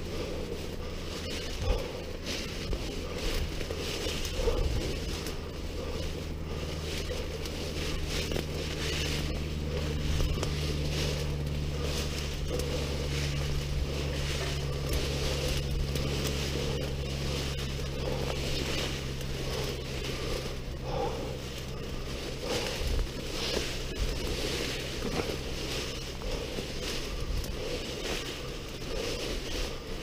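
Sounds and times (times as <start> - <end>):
footsteps rustling through brush: 0.0 - 30.0
steady low hum: 0.0 - 30.0.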